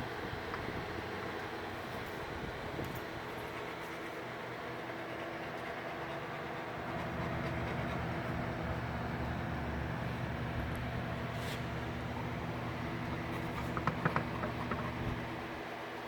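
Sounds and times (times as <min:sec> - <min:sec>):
low many-toned hum: 0:00.0 - 0:15.8.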